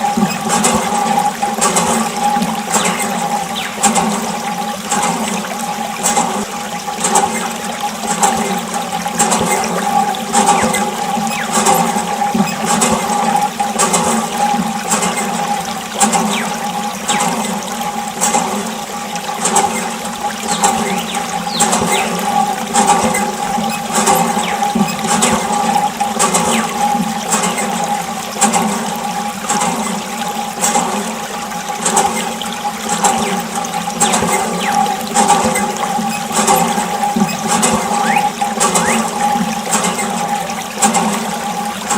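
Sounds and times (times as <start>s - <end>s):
pump motor humming: 0.0s - 41.9s
water spraying and splashing: 0.0s - 41.9s.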